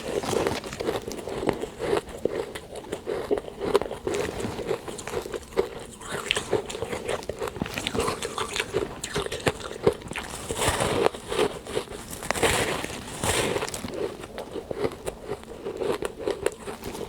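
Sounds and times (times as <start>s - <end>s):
person chewing frost crunches: 0.0s - 17.0s.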